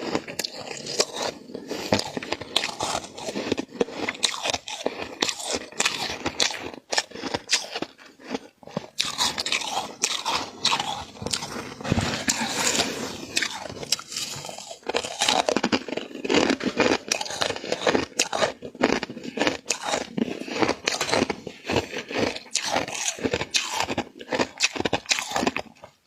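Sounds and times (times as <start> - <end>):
crunching and chewing frost: 0.0 - 26.0.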